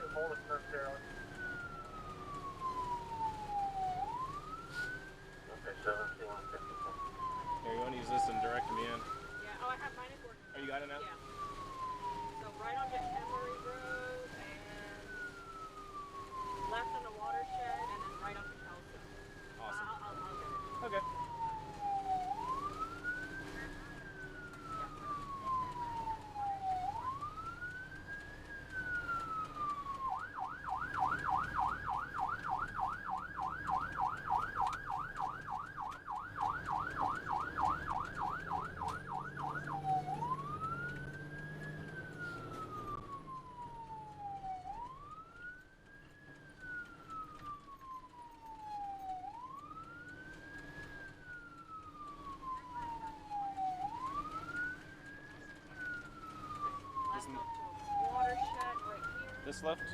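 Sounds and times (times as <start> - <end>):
ambulance siren: 0.0 - 59.9
engine and road noise hum: 0.0 - 59.9.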